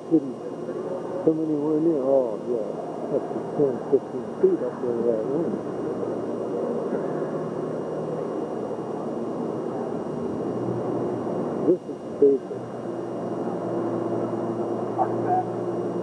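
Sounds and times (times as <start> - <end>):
distant indistinct voices: 0.0 - 15.9
steady low hum: 0.0 - 16.0.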